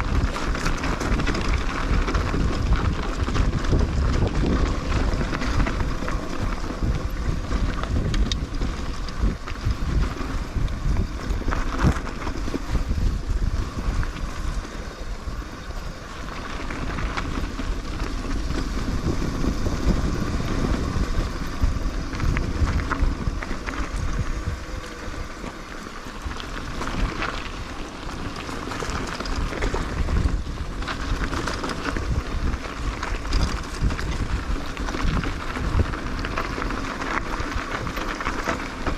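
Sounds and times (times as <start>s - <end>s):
bike rattling and knocking: 0.0s - 38.9s
bike tyres rolling over stones: 0.0s - 38.9s
wind noise on microphone: 0.0s - 38.9s.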